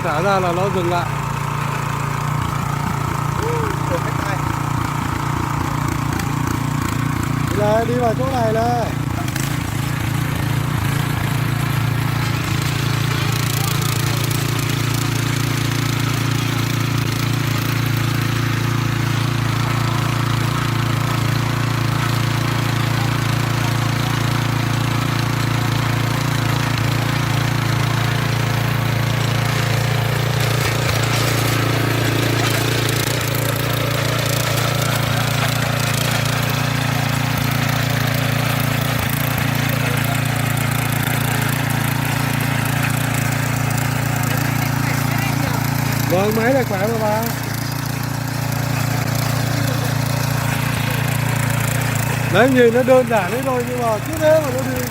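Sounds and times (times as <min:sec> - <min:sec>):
petrol engine running under load: 0:00.0 - 0:54.9.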